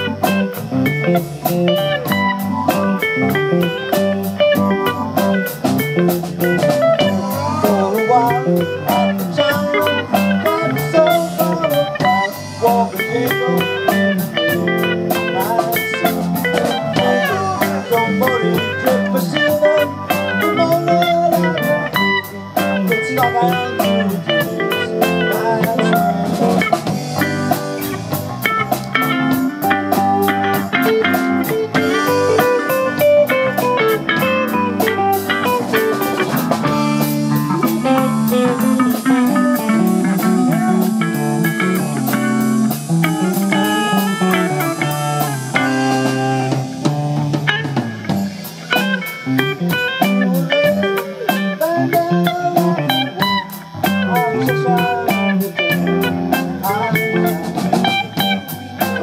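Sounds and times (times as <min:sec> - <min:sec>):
guitar melodic lines: 0:00.0 - 0:59.0
rock band playing: 0:00.0 - 0:59.0.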